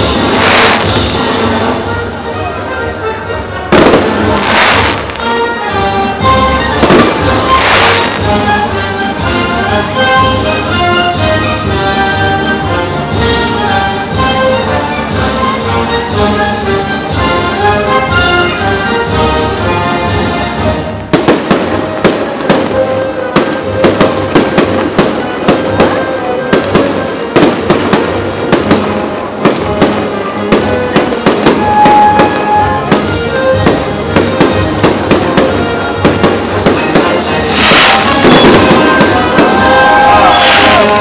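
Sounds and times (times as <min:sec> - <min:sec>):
fireworks bangs and crackling: 0:00.0 - 0:02.7, 0:03.6 - 0:41.0
orchestral music with brass: 0:00.0 - 0:41.0.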